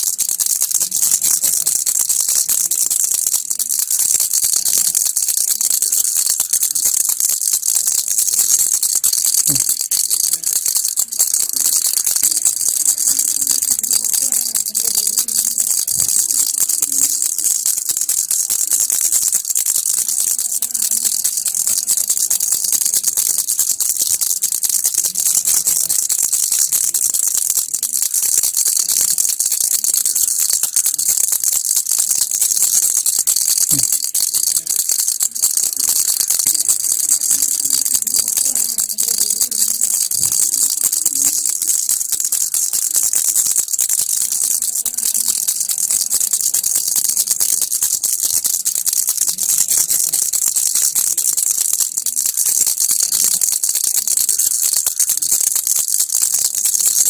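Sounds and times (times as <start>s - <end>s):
plastic baby rattle shaken: 0.0s - 57.0s.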